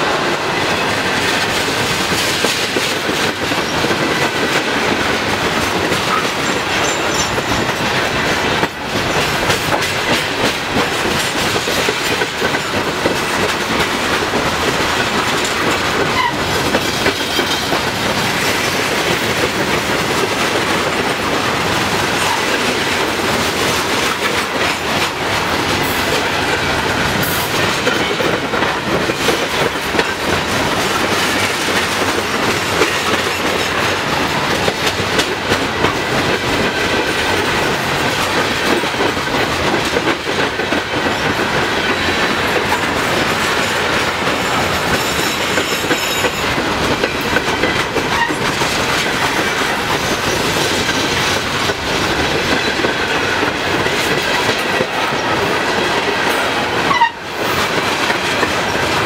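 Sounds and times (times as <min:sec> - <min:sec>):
freight train rumbling past: 0:00.0 - 0:59.0
wheels clacking over rail joints: 0:00.0 - 0:59.0.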